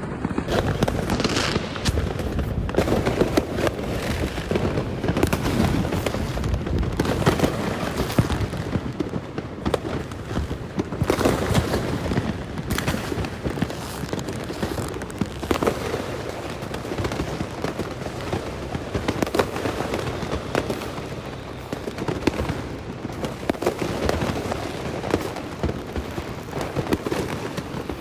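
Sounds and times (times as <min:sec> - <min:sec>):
crackle of distant fireworks: 0:00.0 - 0:28.0
fireworks bangs and cracks: 0:00.0 - 0:28.0.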